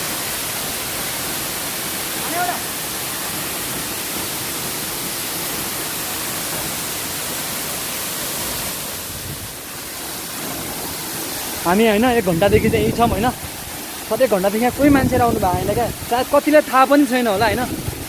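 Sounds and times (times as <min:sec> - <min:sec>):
waterfall pouring: 0:00.0 - 0:18.0.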